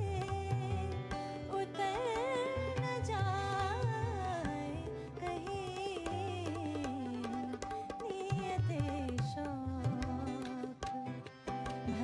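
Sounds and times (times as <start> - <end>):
hand drum rhythm: 0.0 - 12.0.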